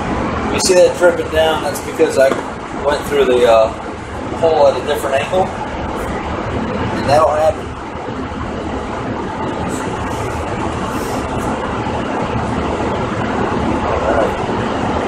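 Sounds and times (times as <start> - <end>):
blower fan rushing air: 0.0 - 15.0.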